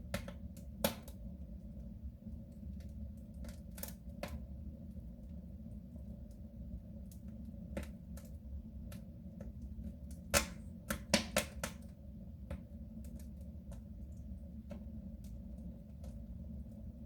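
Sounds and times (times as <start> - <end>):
wood fire crackling in stove: 0.0 - 17.0.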